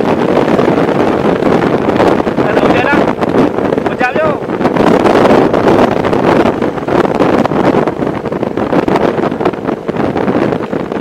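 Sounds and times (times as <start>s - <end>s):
motorcycle running: 0.0s - 11.0s
road noise: 0.0s - 11.0s
wind rushing over microphone: 0.0s - 11.0s.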